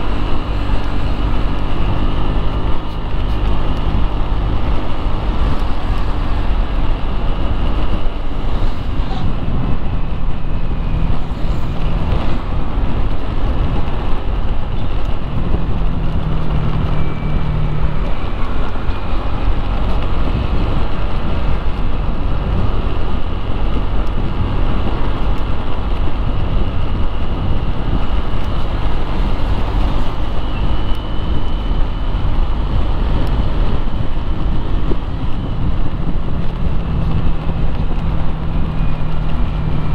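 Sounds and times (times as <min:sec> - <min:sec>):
traffic: 0:00.0 - 0:39.9
wind on microphone: 0:00.0 - 0:39.9.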